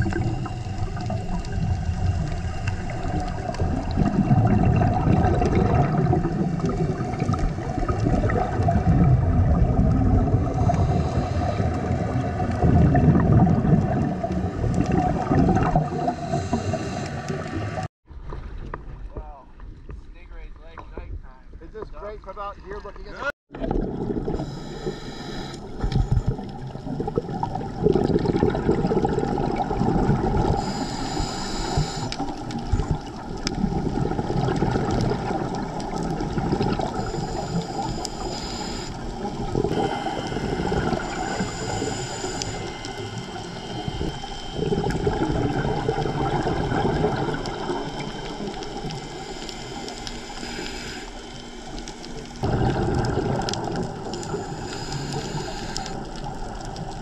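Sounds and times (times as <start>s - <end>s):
underwater bubbling and gurgling: 0.0s - 20.0s, 22.0s - 57.0s.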